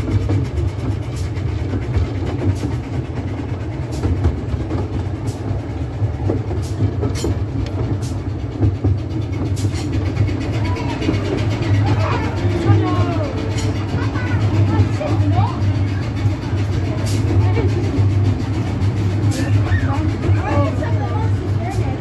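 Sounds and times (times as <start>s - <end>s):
train low rumble: 0.0s - 22.0s
wheels clicking over rail joints: 0.0s - 22.0s.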